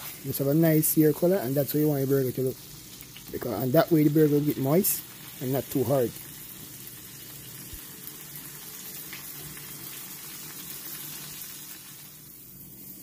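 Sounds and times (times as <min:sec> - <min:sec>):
burger patties sizzling in pan: 0:00.0 - 0:13.0.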